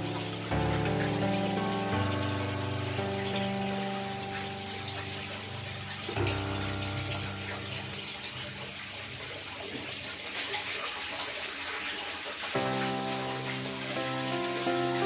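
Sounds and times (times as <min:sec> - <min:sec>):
background music sustained notes: 0:00.0 - 0:10.2, 0:12.6 - 0:15.0.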